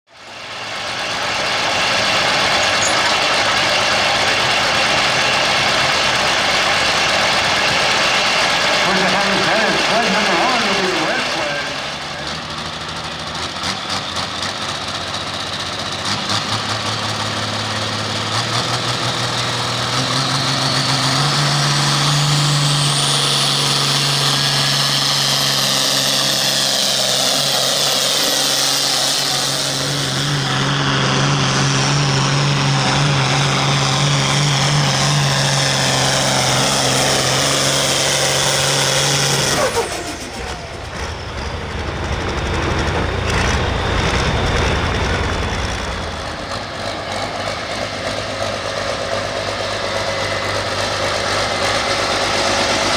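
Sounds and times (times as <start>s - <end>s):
high whine: 0.1s - 12.2s, 20.4s - 52.9s
tractor engine revving: 0.1s - 52.9s.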